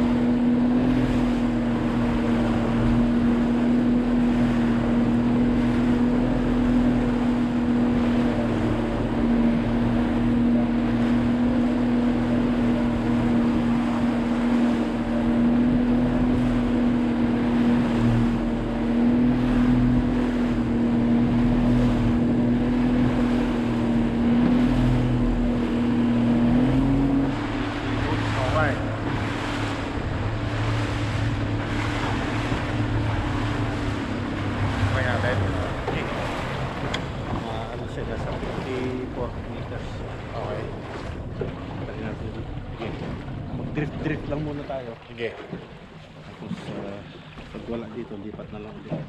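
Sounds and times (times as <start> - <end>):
motorboat engine running: 0.0 - 49.0
water rushing past hull: 0.0 - 49.0
wind buffeting microphone: 0.0 - 49.0.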